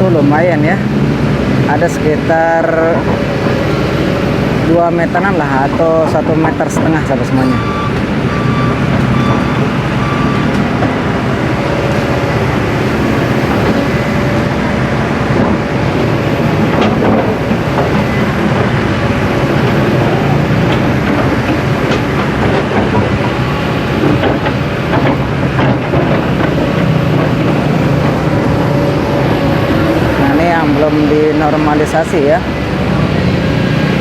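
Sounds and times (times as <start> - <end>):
loud engine rumble: 0.0 - 34.0
rushing noise: 0.0 - 34.0.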